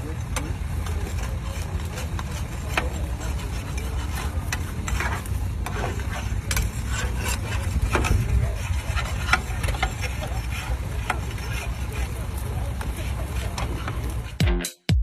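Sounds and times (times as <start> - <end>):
plough scraping through soil: 0.0 - 14.4.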